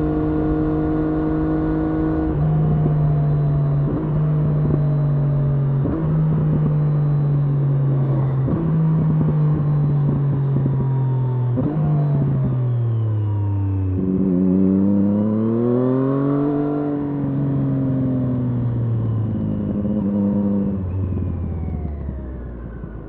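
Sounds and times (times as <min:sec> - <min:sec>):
motorcycle engine revving: 0:00.0 - 0:12.8, 0:13.7 - 0:21.9.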